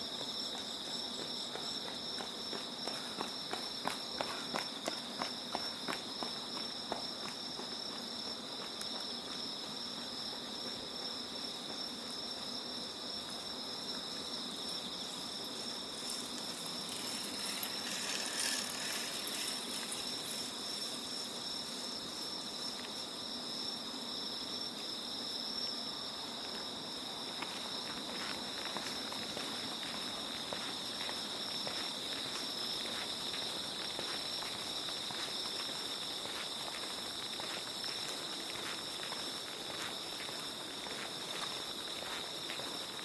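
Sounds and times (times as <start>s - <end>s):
crickets trilling: 0.0s - 43.0s
footsteps: 0.1s - 12.5s, 13.3s - 22.0s, 26.4s - 43.0s.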